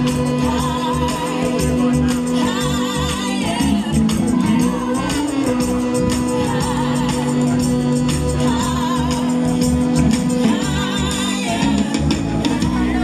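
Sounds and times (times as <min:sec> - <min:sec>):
music with singing over beat: 0:00.0 - 0:13.0.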